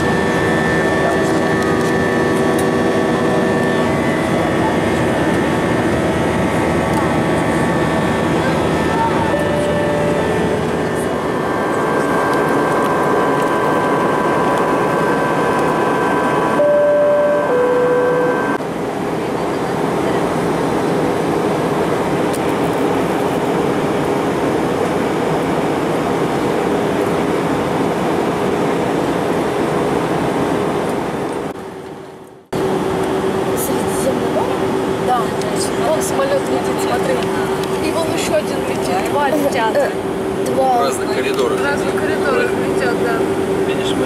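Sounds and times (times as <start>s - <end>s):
airliner cabin engine rush: 0.0s - 44.0s.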